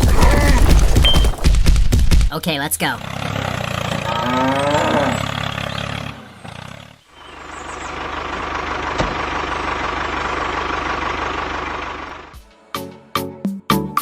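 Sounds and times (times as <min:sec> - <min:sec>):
tractor engine running: 0:00.0 - 0:04.2, 0:05.1 - 0:12.4.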